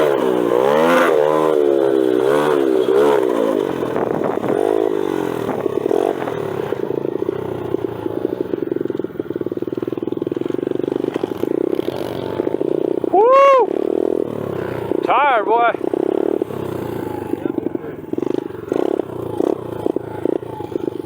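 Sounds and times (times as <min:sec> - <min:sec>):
pit bike engines revving: 0:00.0 - 0:21.0.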